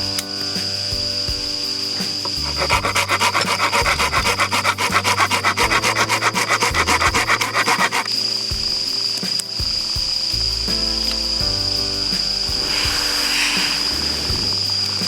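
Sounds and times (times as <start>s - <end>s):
rapid rasping strokes: 0.0s - 15.0s.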